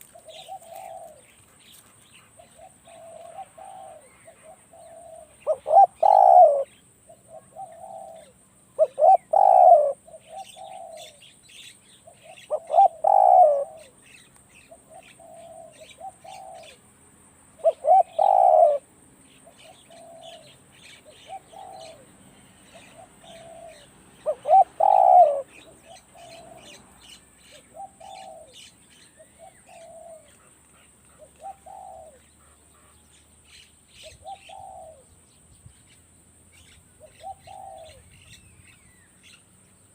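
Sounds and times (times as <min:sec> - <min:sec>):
dove cooing: 0:00.0 - 0:16.8, 0:17.6 - 0:32.9, 0:34.0 - 0:35.1, 0:37.0 - 0:38.4
small birds chirping faintly: 0:00.0 - 0:39.9.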